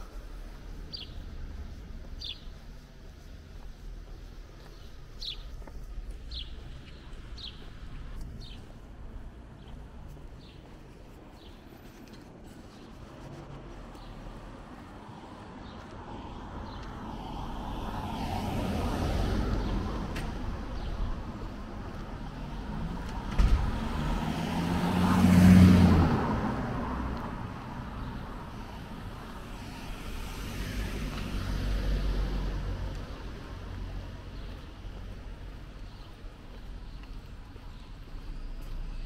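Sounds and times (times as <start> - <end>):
cars passing: 0.0 - 39.0.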